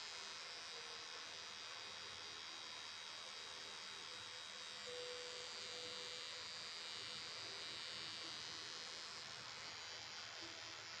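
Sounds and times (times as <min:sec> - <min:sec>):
tattoo pen buzzing: 0:00.0 - 0:11.0.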